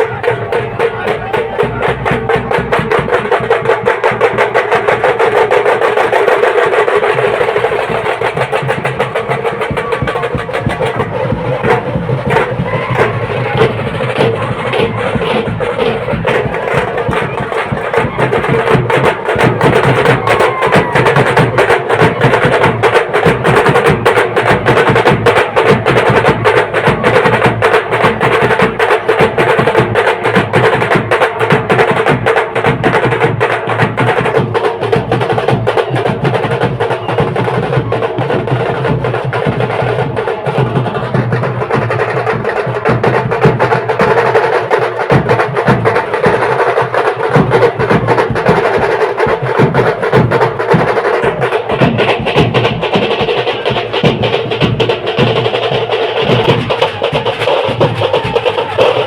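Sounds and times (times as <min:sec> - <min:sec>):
fast drumming: 0:00.0 - 0:59.0.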